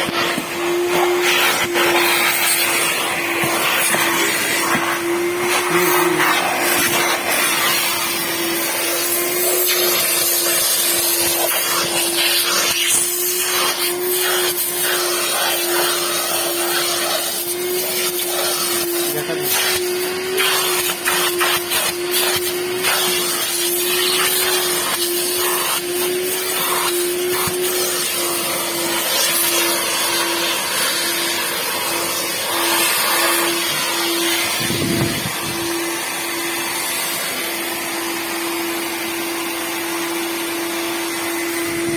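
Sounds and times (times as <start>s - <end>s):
small electric motor running: 0.0s - 41.9s.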